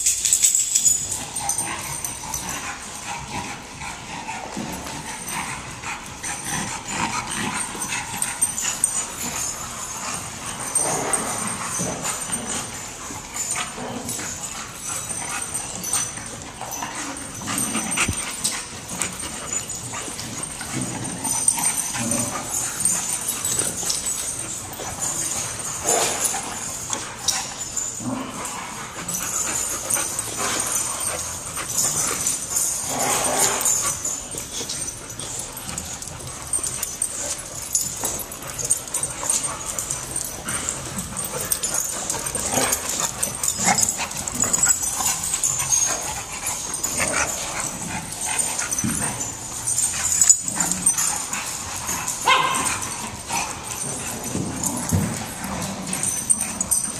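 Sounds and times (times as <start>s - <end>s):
dogs play-fighting noises: 0.0s - 56.9s.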